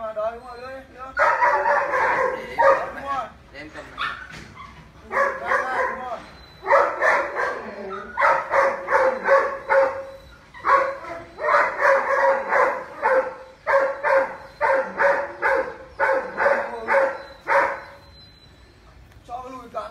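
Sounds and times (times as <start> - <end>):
dog barking: 1.2 - 3.0, 4.0 - 18.1.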